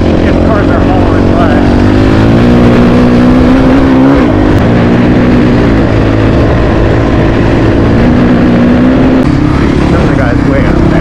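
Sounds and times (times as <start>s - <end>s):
low rumble of wind and road: 0.0s - 11.0s
motorcycle engine running: 0.0s - 11.0s.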